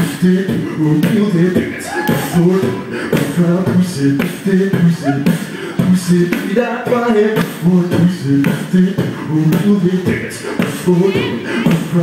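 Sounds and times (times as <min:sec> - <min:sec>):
amplified beatboxing: 0:00.0 - 0:12.0.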